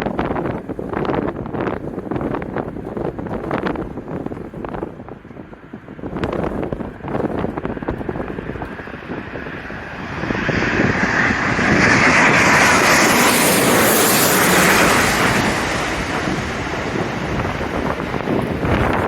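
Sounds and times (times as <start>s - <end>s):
jet airliner roar overhead: 0.0s - 19.0s
wind buffeting microphone: 0.0s - 19.0s.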